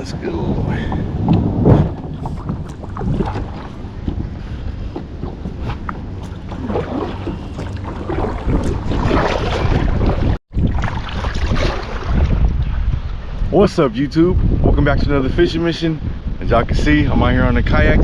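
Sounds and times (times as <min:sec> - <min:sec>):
water lapping and splashing: 0:00.0 - 0:14.7
wind buffeting microphone: 0:00.0 - 0:18.0.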